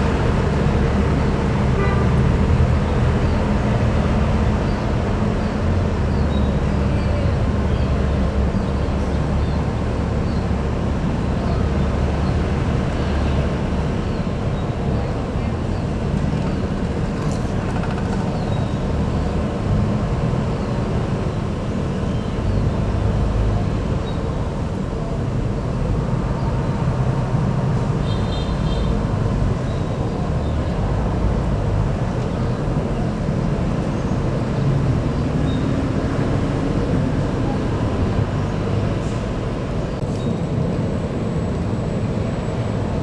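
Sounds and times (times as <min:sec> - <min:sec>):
diesel bus engine rumbling: 0:00.0 - 0:43.0.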